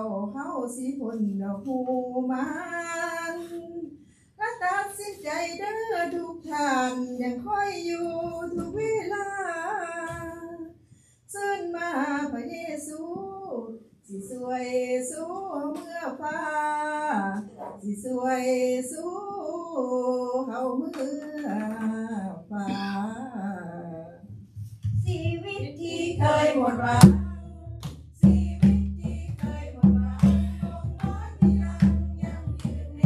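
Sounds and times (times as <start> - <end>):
women singing a hymn: 0.0 - 24.2, 25.1 - 33.0.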